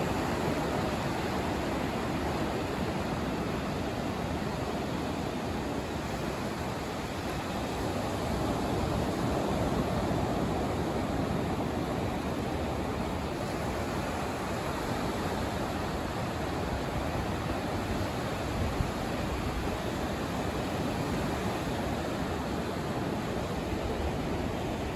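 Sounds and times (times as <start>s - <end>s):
ocean surf on beach: 0.0s - 24.9s.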